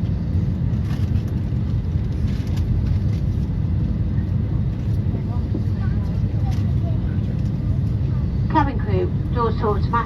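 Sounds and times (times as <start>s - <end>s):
aircraft cabin low rumble: 0.0s - 10.0s.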